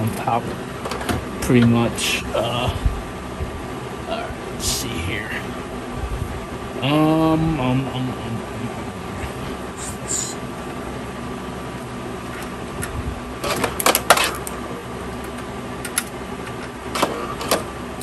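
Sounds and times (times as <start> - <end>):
rack equipment whirring: 0.0 - 18.0.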